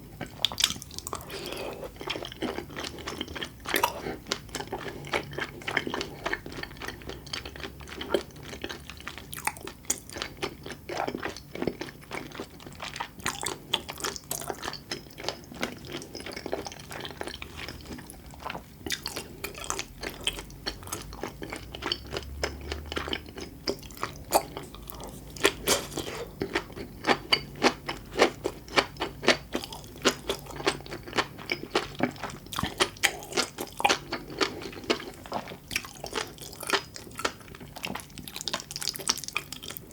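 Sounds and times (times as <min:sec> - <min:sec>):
wet chewing with crisp pops: 0:00.2 - 0:39.9.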